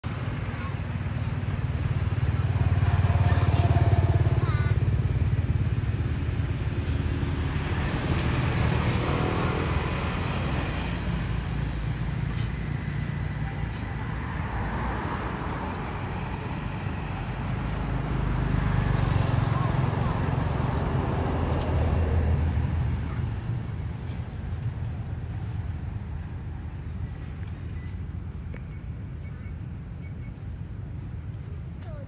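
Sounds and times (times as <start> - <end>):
vehicle passing: 0.0 - 28.2
road traffic rumble: 0.0 - 32.0.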